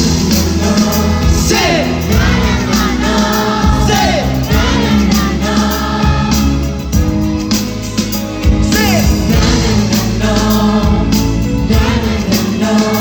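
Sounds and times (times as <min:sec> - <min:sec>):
male vocal group singing: 0:00.0 - 0:07.0, 0:08.6 - 0:13.0
pop backing track with bass: 0:00.0 - 0:13.0.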